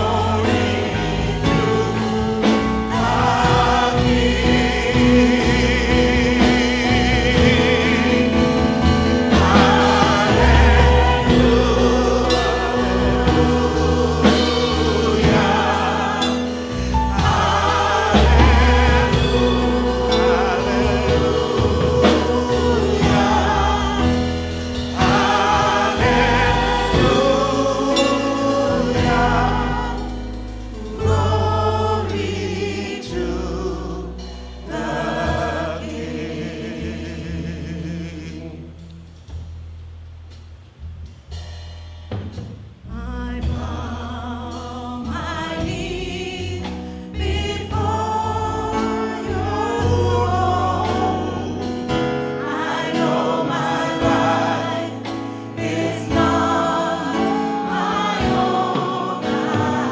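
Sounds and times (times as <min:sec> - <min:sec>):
choir singing gospel song: 0:00.0 - 0:39.1, 0:42.9 - 0:59.9
low bass notes: 0:00.0 - 0:59.9.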